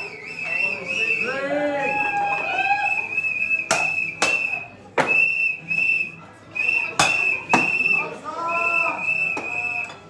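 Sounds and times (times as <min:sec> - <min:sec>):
shrill whistle blasts: 0:00.0 - 0:10.0.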